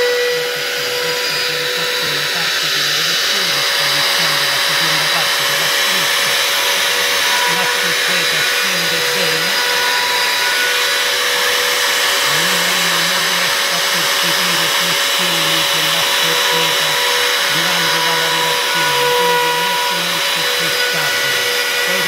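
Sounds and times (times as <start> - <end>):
router spindle whine: 0.0 - 22.0
stepper motor hum: 0.0 - 22.0.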